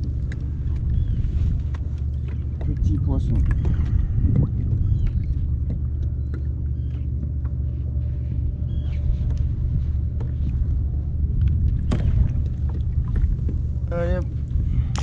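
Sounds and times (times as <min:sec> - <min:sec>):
wind buffeting microphone: 0:00.0 - 0:06.9, 0:08.4 - 0:15.0.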